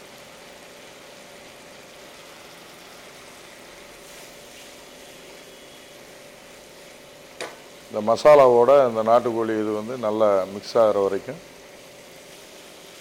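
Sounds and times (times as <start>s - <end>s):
chicken frying in a wok: 0.0s - 13.0s.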